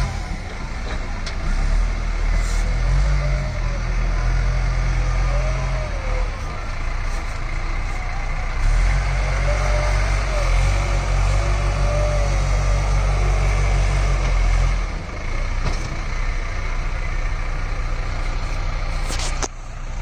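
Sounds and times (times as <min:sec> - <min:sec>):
diesel engine running under work: 0:00.0 - 0:20.0.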